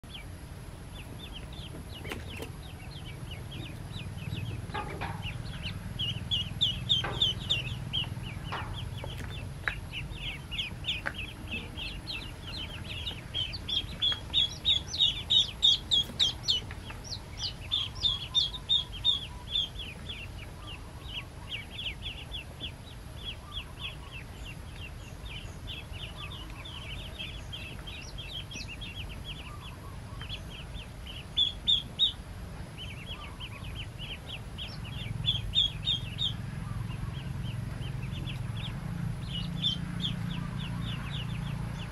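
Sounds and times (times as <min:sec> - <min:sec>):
ducklings peeping: 0:00.0 - 0:41.9.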